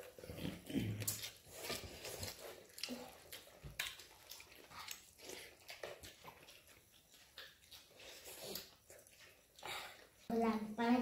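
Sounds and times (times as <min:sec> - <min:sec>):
chewing and mouth smacking: 0:00.0 - 0:10.2
hands mixing food on steel plates: 0:00.0 - 0:11.0.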